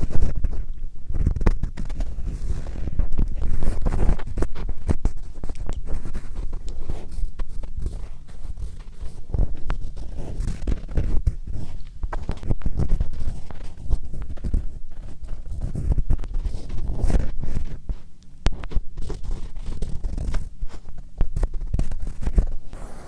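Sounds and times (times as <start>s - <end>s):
microphone rubbing thuds: 0.0s - 23.0s
scratching against a microphone: 0.0s - 23.0s.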